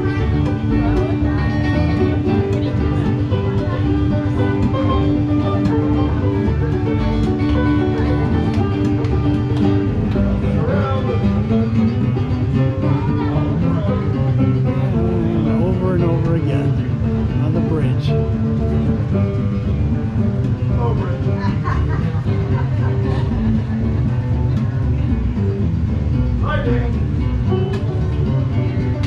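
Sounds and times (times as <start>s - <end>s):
plucked string music: 0.0s - 29.0s.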